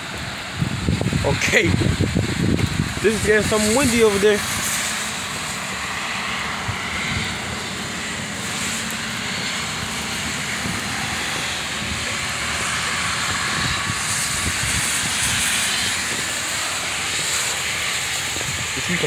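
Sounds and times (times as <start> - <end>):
heavy rain pouring: 0.0 - 19.0
wind buffeting microphone: 0.0 - 19.0.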